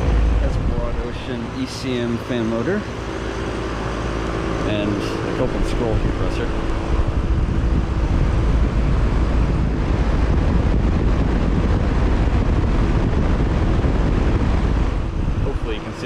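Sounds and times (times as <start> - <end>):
air rush buffeting microphone: 0.0 - 16.0.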